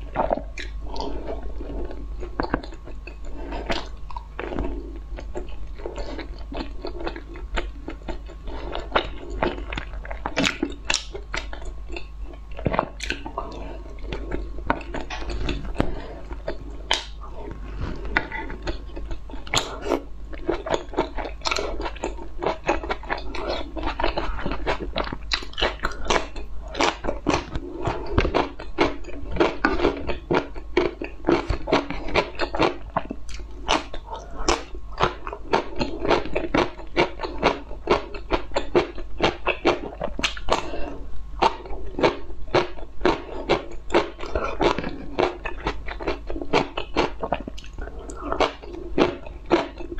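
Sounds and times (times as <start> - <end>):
person crunching food: 0.0 - 49.9.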